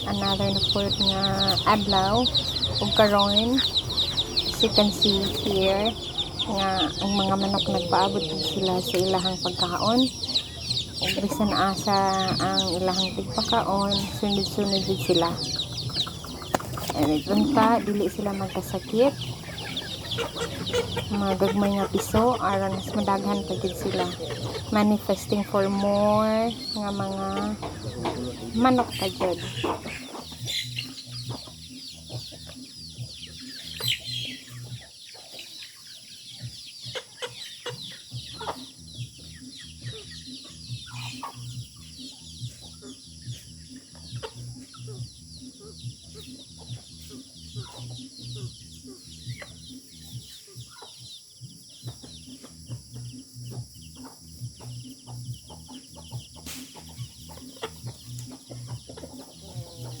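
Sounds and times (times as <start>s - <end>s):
chickens clucking: 0.0s - 60.0s.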